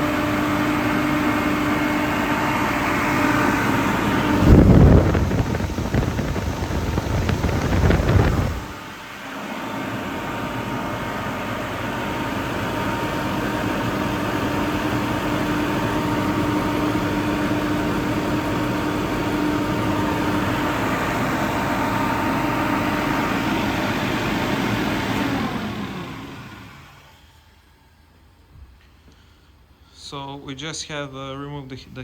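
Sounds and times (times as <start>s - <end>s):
air compressor running: 0.0s - 27.7s.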